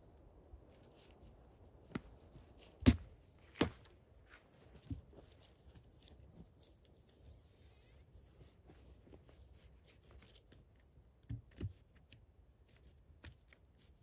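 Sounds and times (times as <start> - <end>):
faint rustling and crackling: 0.2 - 14.0.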